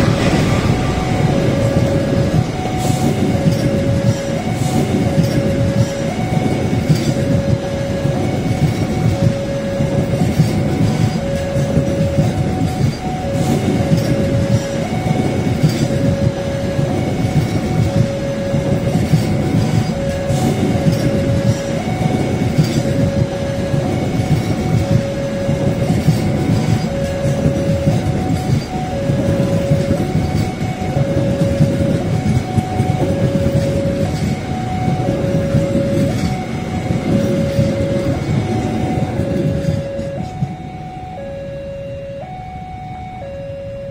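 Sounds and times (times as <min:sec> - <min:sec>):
loud rumbling running noise: 0:00.0 - 0:40.7
two-pitch held tone: 0:00.0 - 0:43.9.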